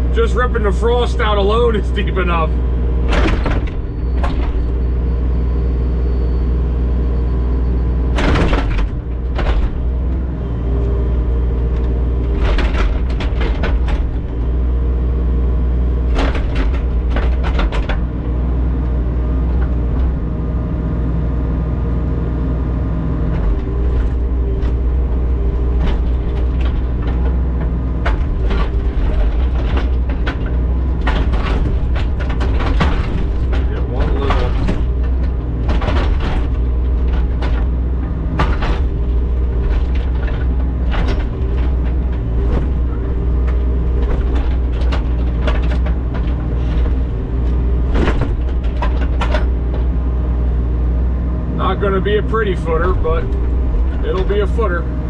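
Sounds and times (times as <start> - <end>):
digging machine engine under load: 0.0 - 55.0.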